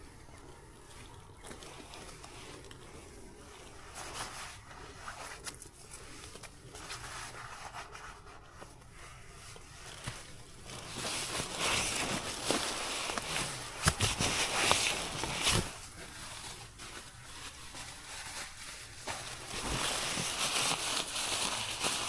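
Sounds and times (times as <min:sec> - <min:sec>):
fabric and gear rustling: 0:00.5 - 0:22.0.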